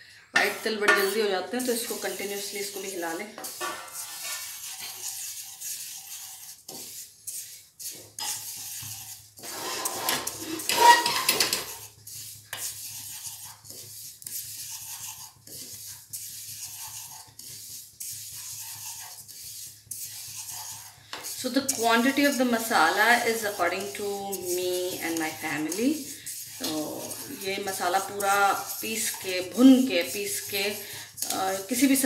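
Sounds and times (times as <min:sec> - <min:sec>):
seeds scraping in metal pan: 0:00.4 - 0:32.0.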